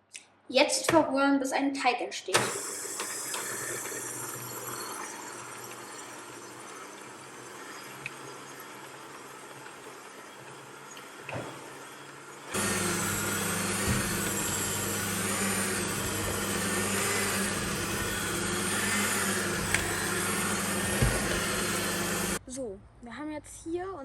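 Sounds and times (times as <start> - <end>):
electric mixer motor running: 2.4 - 22.4.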